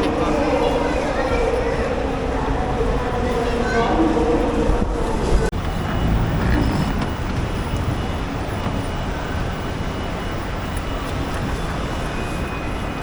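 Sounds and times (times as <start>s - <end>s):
busy airport terminal rumble: 0.0s - 13.0s.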